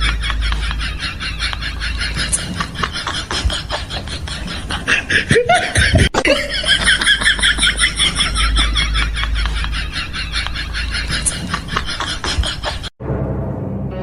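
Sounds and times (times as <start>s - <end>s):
person giggling: 0.0s - 12.9s.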